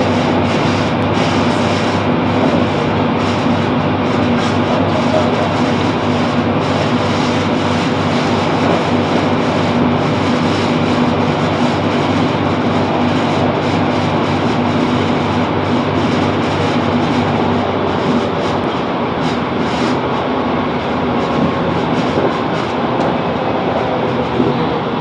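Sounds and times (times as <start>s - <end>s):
train engine hum: 0.0s - 25.0s
wheel-on-rail noise: 0.0s - 25.0s.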